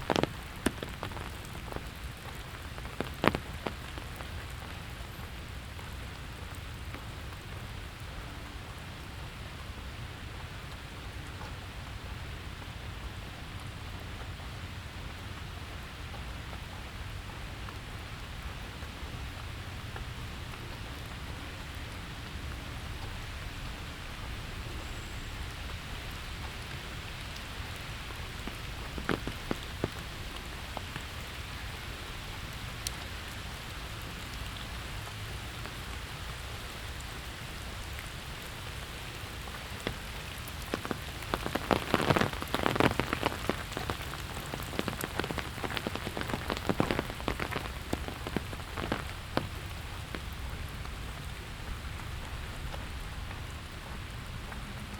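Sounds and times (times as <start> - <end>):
steady rain pattering: 0.0 - 54.9.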